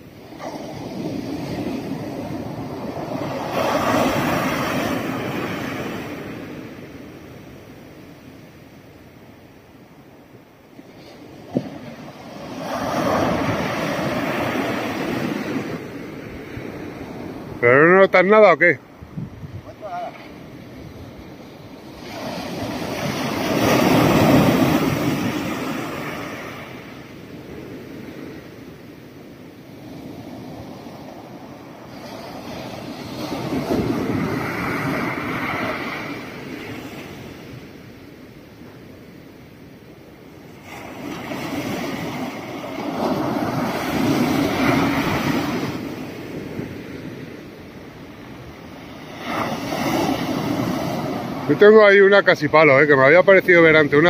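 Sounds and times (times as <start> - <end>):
wave breaking on beach: 0.0 - 8.6, 10.7 - 38.2, 40.2 - 54.0.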